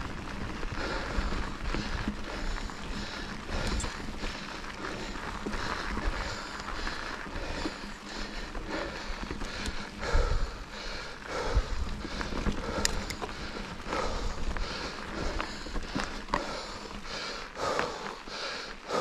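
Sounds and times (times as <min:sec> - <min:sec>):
wind rumble on microphone: 0:00.0 - 0:17.0
person breathing hard: 0:00.6 - 0:19.0.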